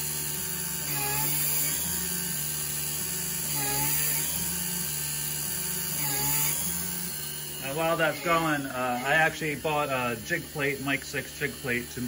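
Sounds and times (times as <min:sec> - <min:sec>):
milling machine whining: 0:00.0 - 0:12.0.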